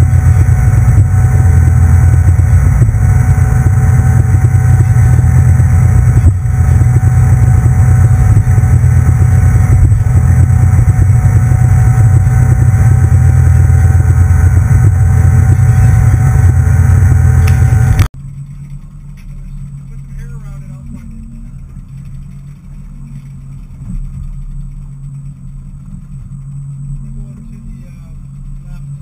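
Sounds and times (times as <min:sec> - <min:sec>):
boat engine drone: 0:00.0 - 0:29.0
faint steady whine: 0:00.0 - 0:29.0.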